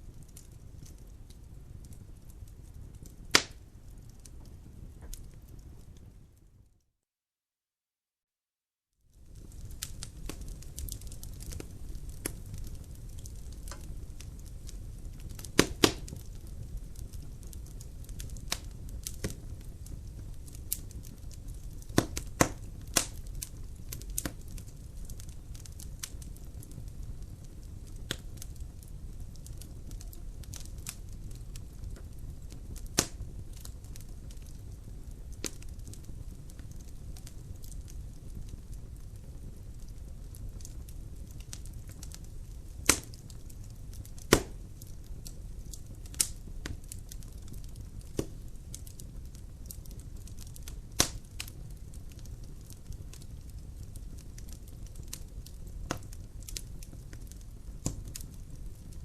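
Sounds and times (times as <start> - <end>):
logs crackling in fireplace: 0.0 - 6.6, 9.1 - 59.0.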